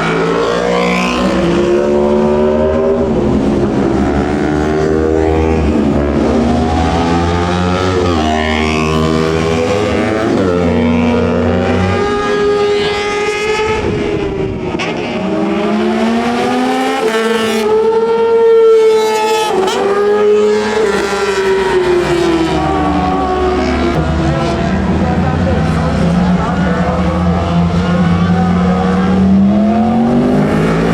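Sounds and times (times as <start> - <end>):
racing motorcycles at high revs: 0.0 - 30.9.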